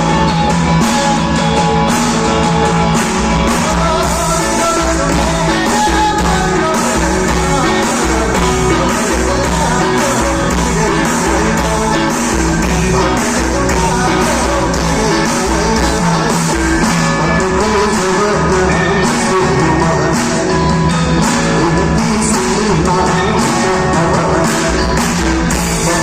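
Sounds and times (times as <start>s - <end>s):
live rock band playing: 0.0s - 26.0s
person singing: 0.0s - 26.0s.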